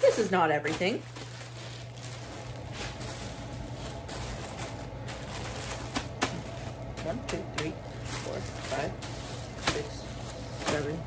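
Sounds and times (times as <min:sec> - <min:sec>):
clothing and packaging rustling: 0:00.0 - 0:11.0
steady low hum: 0:00.0 - 0:11.0.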